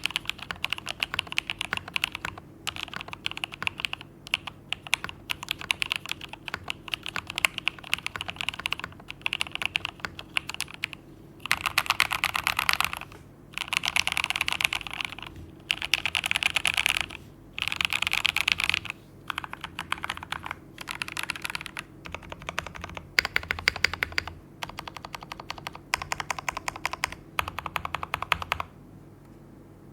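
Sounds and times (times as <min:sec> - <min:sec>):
typing on mechanical keyboard: 0:00.0 - 0:28.7.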